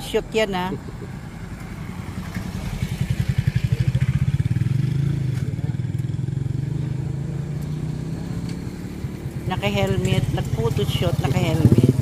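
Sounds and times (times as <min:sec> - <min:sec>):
small motorcycle engine passing: 0:00.7 - 0:12.0.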